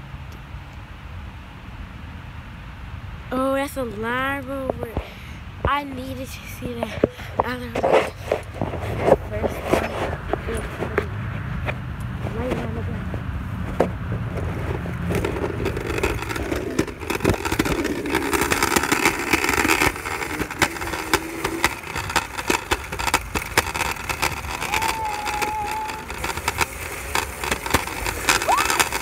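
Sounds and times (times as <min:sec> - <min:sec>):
scooter wheels rattling on pavement: 0:04.2 - 0:29.0.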